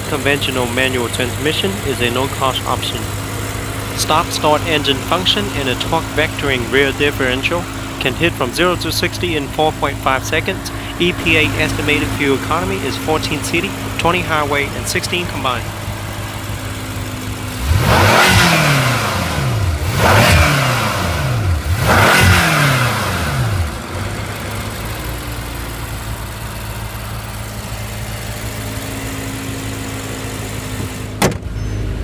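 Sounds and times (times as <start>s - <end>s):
car engine revving and idling: 0.0s - 32.0s.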